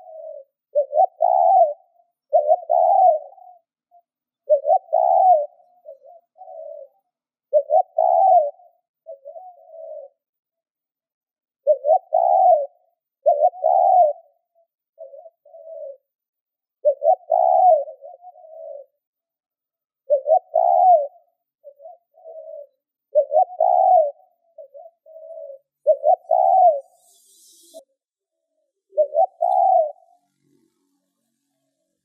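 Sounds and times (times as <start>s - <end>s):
dove cooing: 0.0s - 10.3s, 11.6s - 16.1s, 16.8s - 19.0s, 20.0s - 27.8s, 28.8s - 30.2s.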